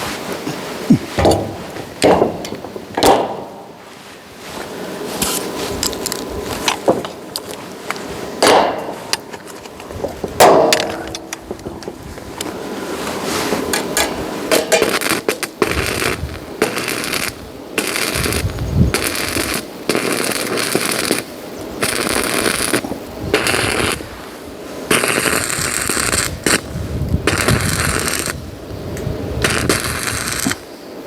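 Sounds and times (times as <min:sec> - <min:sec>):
arc welding crackling: 0:00.0 - 0:31.0.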